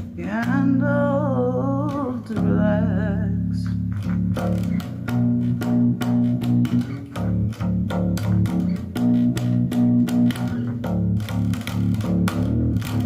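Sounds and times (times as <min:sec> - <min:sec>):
bass guitar riff: 0:00.0 - 0:13.0.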